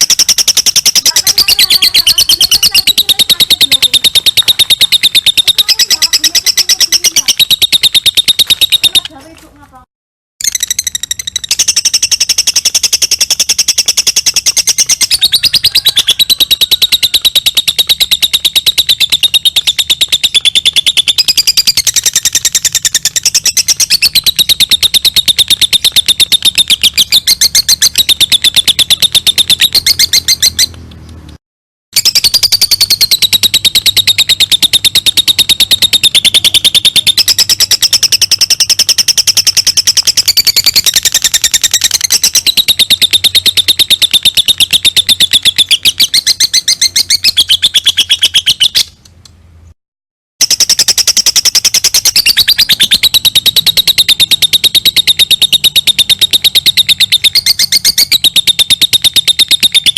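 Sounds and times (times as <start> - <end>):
lovebird chattering trill: 0.0 - 9.6, 10.4 - 30.8, 32.0 - 49.0, 50.4 - 59.9.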